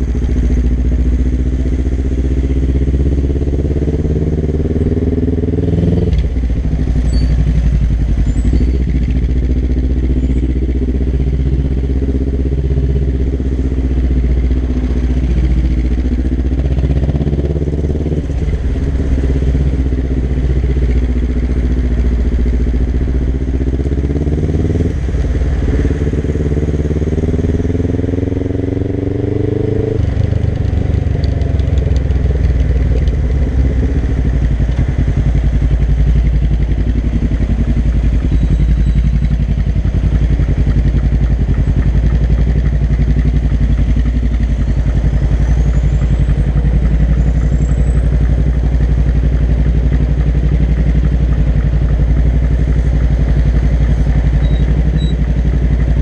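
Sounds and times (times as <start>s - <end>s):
motorcycle engine idling: 0.0s - 56.0s
motorcycle engine revving: 0.0s - 56.0s.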